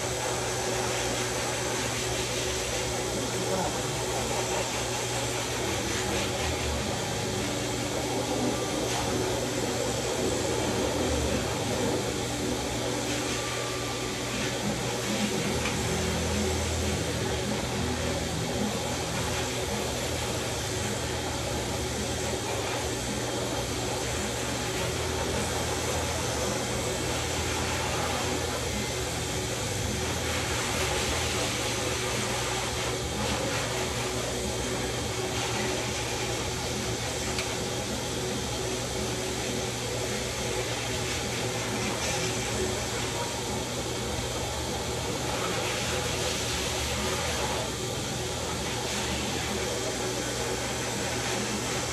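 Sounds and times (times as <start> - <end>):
electric clippers humming: 0.0 - 51.9.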